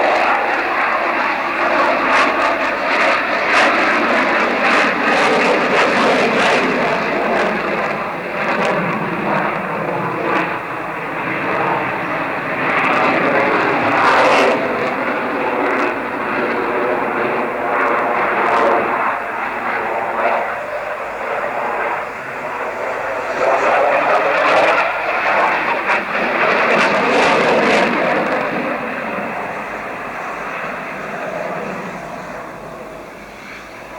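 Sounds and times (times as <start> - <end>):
jet aircraft flying past: 0.0 - 33.9.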